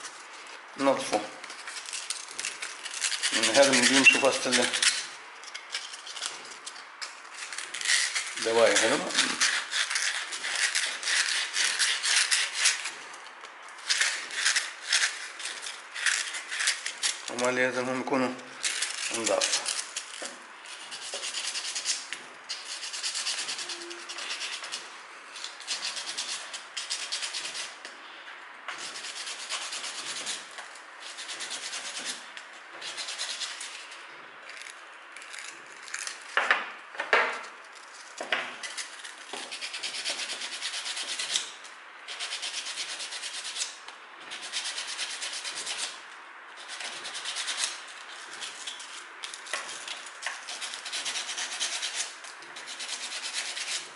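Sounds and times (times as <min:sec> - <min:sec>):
sandpaper scratching: 0:00.0 - 0:13.2, 0:13.8 - 0:27.8, 0:28.7 - 0:36.4, 0:37.7 - 0:46.0, 0:46.6 - 0:53.9.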